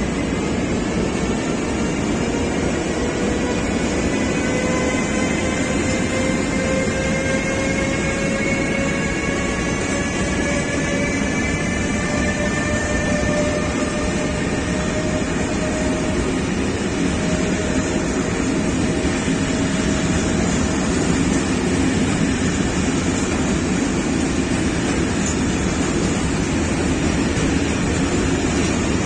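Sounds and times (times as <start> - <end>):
locomotive whine: 0.0 - 29.0
train wheels rumbling on rail: 0.0 - 29.0.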